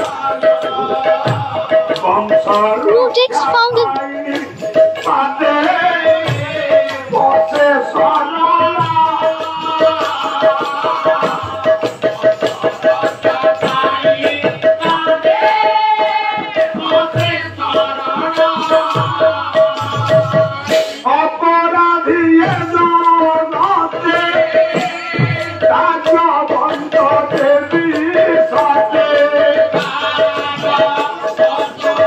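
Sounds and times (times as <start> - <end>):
hand drum beat: 0.0 - 21.0, 22.4 - 32.0
man singing: 0.0 - 32.0.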